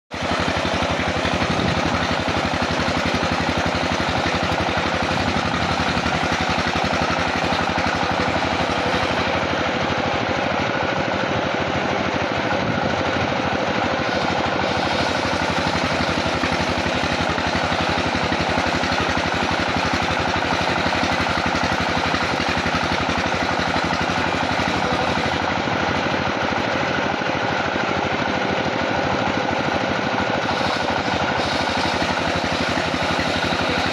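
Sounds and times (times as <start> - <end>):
sawmill machinery rattling: 0.1 - 33.9.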